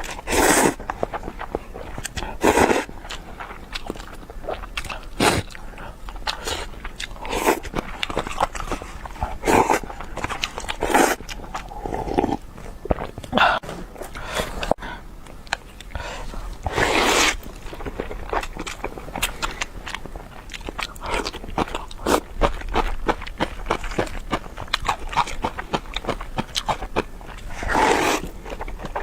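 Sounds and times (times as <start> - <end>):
food being bitten and chewed: 0.0 - 29.0.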